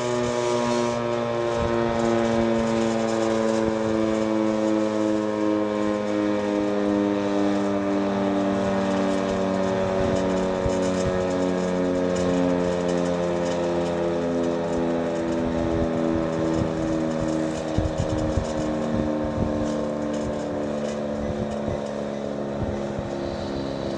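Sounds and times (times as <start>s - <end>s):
dual-tone warning siren: 0.0s - 23.9s.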